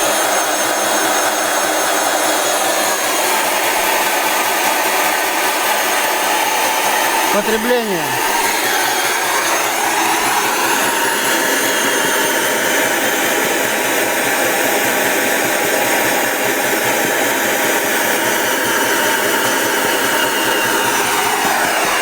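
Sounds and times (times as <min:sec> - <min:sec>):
vacuum cleaner motor whining: 0:00.0 - 0:22.0.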